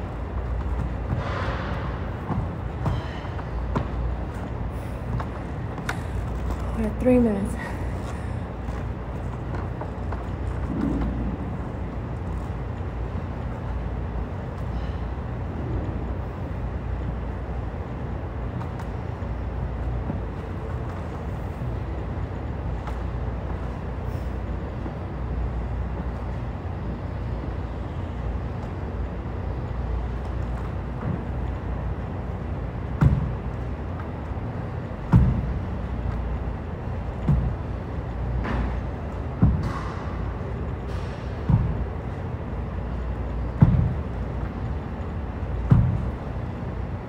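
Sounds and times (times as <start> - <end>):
low rumble with hiss: 0.0 - 47.0.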